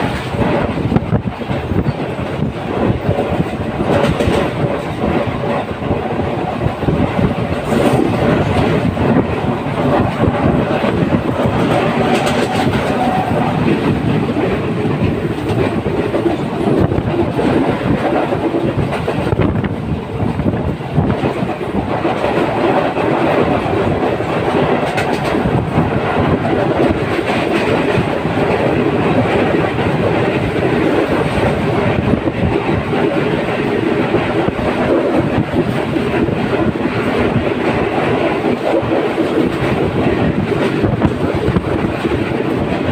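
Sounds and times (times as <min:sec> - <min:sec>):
train wheels clickety-clack: 0:00.0 - 0:42.9.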